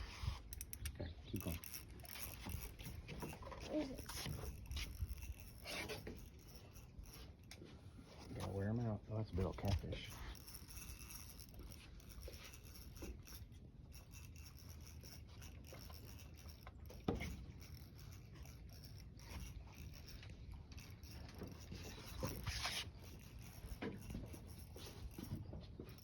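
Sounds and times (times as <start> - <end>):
fishing reel whirring and clicking: 0.0 - 8.5, 9.4 - 26.0.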